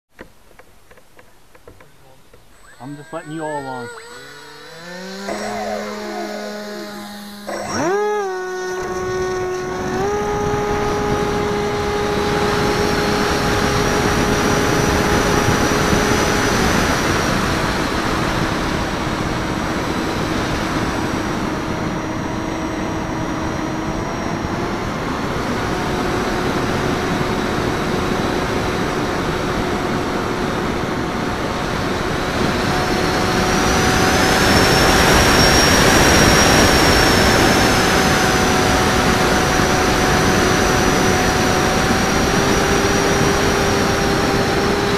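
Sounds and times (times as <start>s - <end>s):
electric motor and propeller humming: 0.2s - 44.9s.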